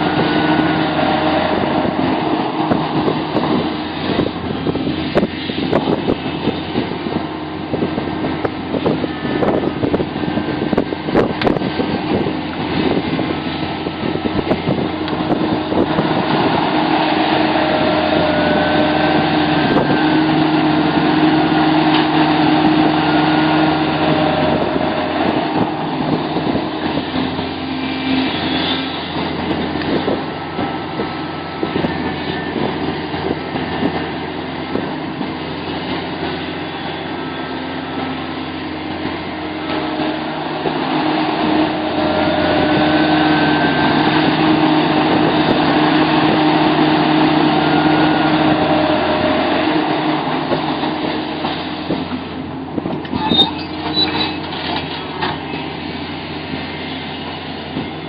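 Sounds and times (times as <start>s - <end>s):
excavator diesel engine running: 0.0s - 58.0s
hydraulic whines: 0.0s - 58.0s.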